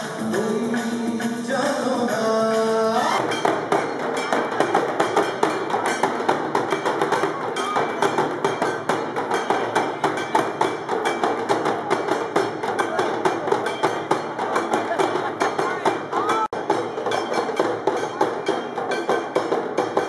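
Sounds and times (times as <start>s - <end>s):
fast drumming on timbales: 0.0s - 20.0s.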